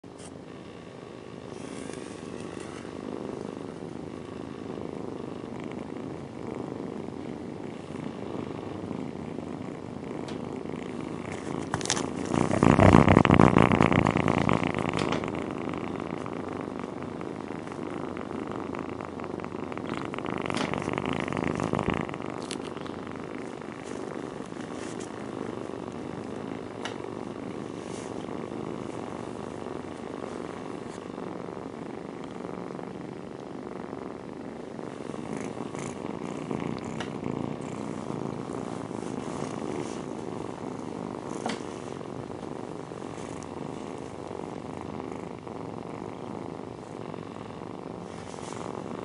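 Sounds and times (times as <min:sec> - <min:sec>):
cat purring: 0:00.0 - 0:49.0.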